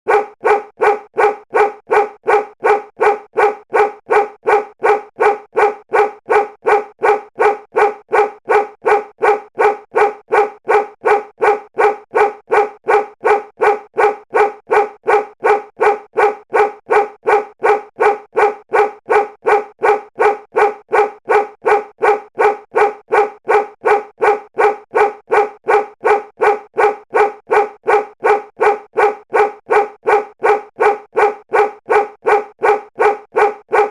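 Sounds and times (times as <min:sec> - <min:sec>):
dog barking: 0:00.1 - 0:33.9.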